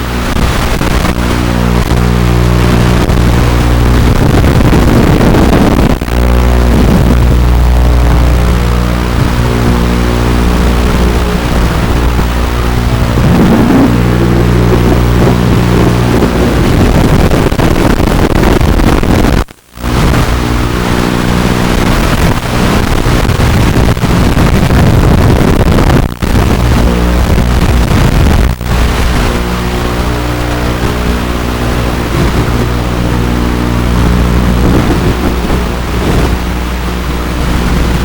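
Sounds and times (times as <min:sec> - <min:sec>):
wind rush on microphone: 0:00.0 - 0:38.0.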